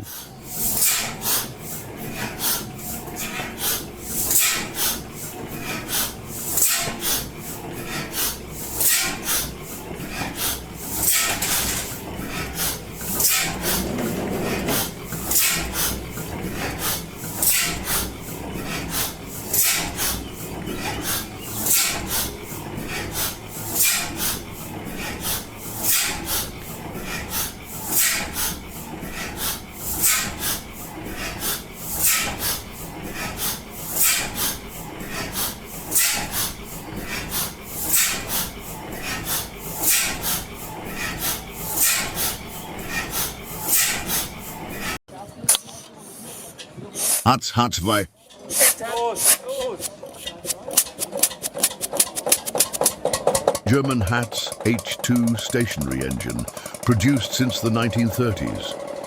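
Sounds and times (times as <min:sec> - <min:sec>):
gas engine running slowly: 0:00.0 - 0:45.0, 0:49.6 - 0:59.0.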